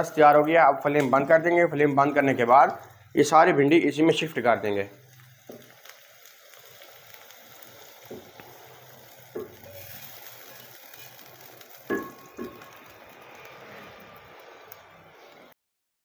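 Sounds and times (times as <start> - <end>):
okra sizzling: 0.0 - 15.5.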